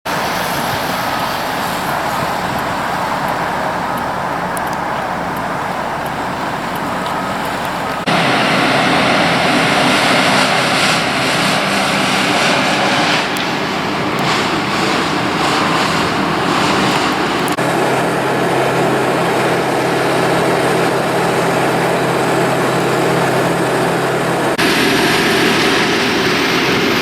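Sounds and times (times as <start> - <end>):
machinery engine running: 0.0 - 27.0.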